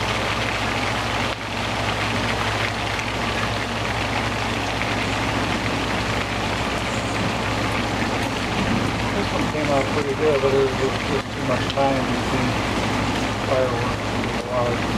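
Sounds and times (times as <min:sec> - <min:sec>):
low steady hum: 0:00.0 - 0:14.9
steady rain falling: 0:00.0 - 0:14.9.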